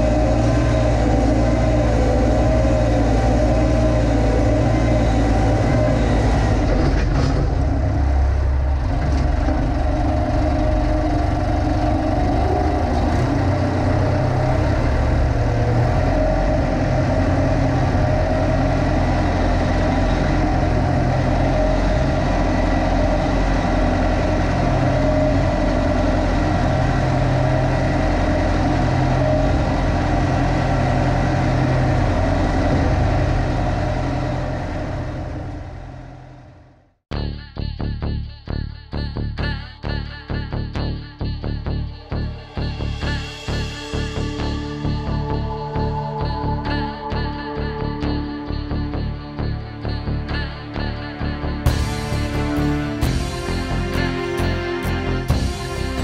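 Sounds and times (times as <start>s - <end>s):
diesel engine running: 0.0s - 37.0s, 39.0s - 56.0s.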